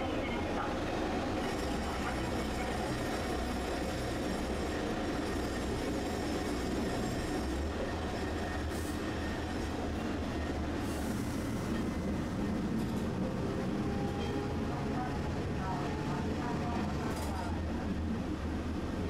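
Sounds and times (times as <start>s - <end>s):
streetcar wheels rumbling: 0.0s - 19.0s.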